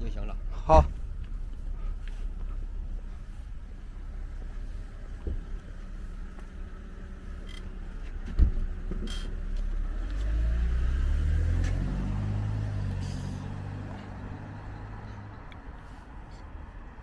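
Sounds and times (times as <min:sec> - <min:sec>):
car engine pulling away: 0:00.3 - 0:16.0.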